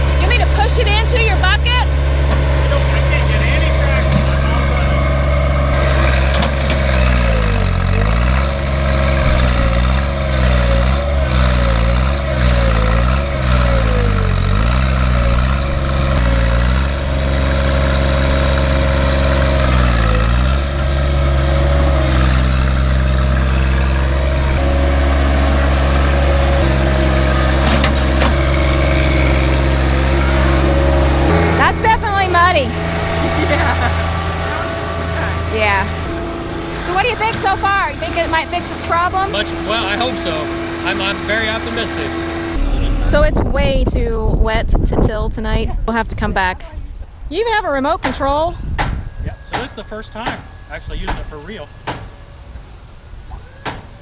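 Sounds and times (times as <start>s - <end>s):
tractor diesel engine working: 0.0s - 54.0s.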